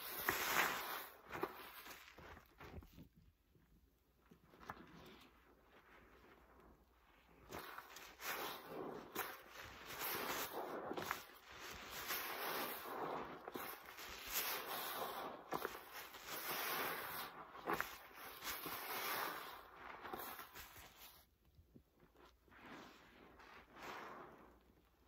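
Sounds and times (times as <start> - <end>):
wet sponges squishing: 0.0 - 25.0.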